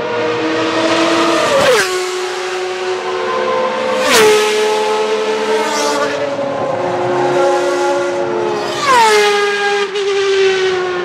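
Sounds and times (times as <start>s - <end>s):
race cars passing at speed: 0.0s - 11.0s.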